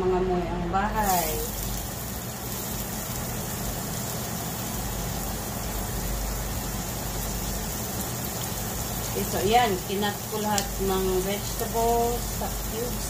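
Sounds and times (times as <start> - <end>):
low mechanical hum: 0.0 - 13.0
onions sizzling in oil: 1.0 - 13.0.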